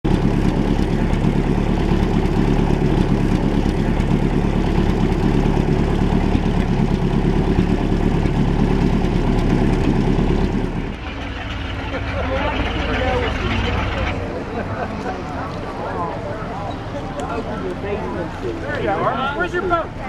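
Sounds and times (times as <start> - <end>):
exhaust spitting water: 0.0 - 16.9
boat engine idling: 0.0 - 20.0.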